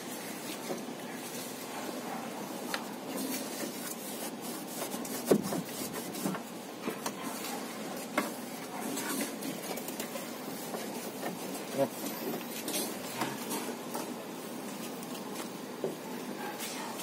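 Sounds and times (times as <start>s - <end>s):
rubbing and scraping: 0.0s - 15.6s.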